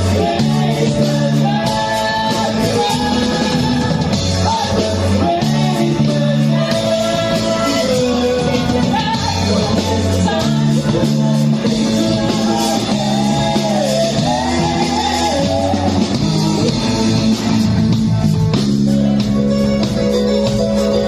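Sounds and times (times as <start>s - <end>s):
person singing: 0.0s - 17.8s
bass line: 0.0s - 21.0s
rock guitar: 0.0s - 21.0s.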